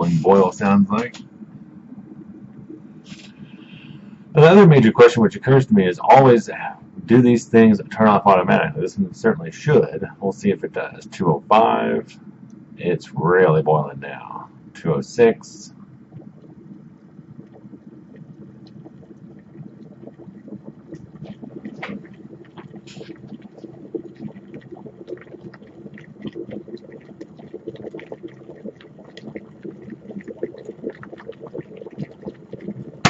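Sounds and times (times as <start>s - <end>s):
kettle water boiling and bubbling: 0.0s - 33.0s.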